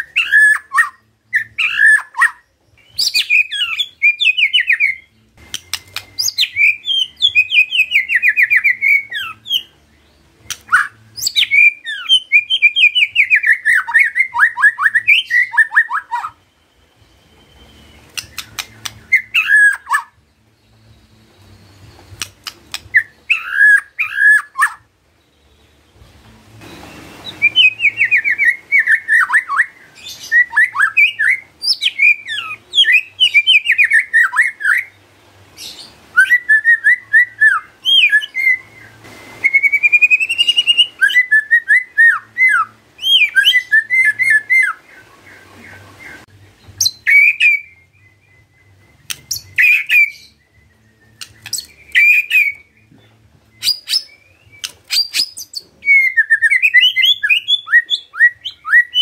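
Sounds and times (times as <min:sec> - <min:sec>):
shama bird singing: 0:00.0 - 0:59.0.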